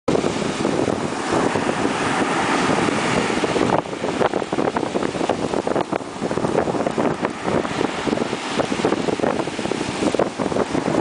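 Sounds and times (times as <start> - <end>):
surf breaking on beach: 0.1 - 11.0
wind buffeting microphone: 0.1 - 11.0.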